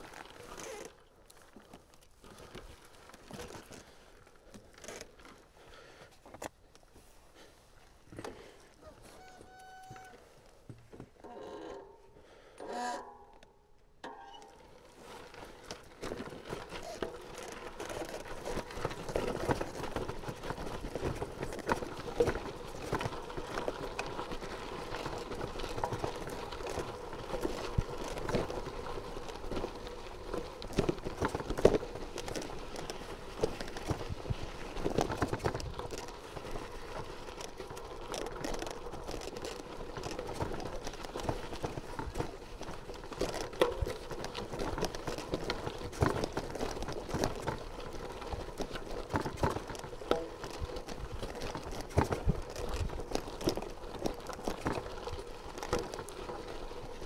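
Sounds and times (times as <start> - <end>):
bike rattling: 0.0 - 6.5, 8.0 - 57.0
bicycle tyres crunching on gravel: 0.0 - 12.5, 14.2 - 57.0.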